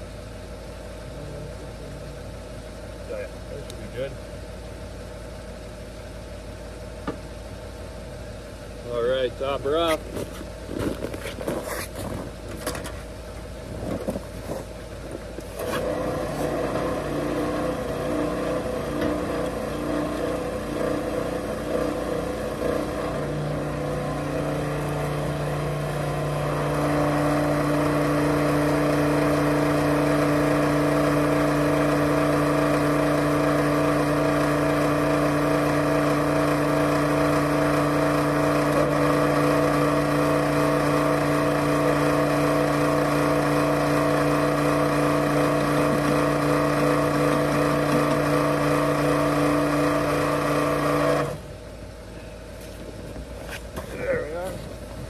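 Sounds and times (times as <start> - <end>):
fuel pump humming: 0.0 - 55.0.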